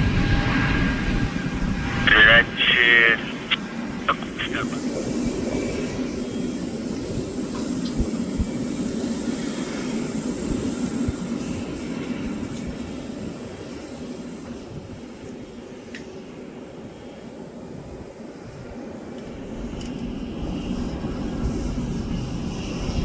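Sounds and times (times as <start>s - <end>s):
jet engines of airliner climbing: 0.0s - 23.0s.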